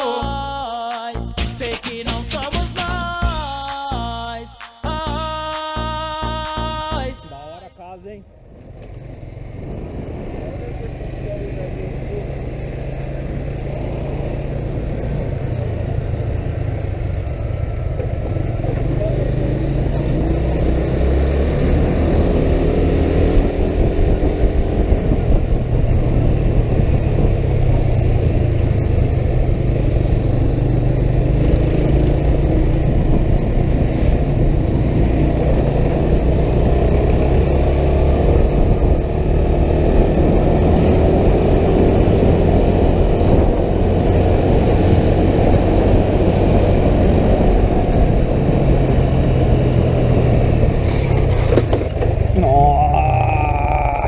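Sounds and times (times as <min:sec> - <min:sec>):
road noise: 0:00.0 - 0:54.0
vehicle engine rumble: 0:00.0 - 0:54.0.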